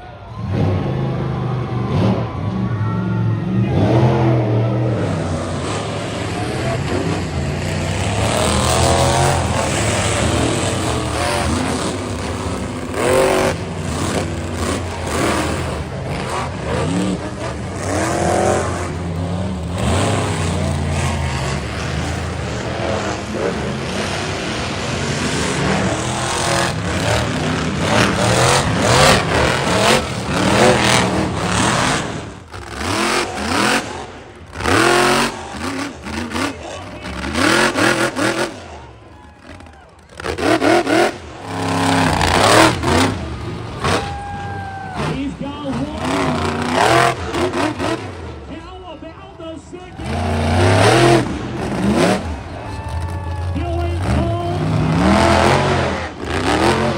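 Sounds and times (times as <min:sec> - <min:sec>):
truck engines revving: 0:00.0 - 0:56.9.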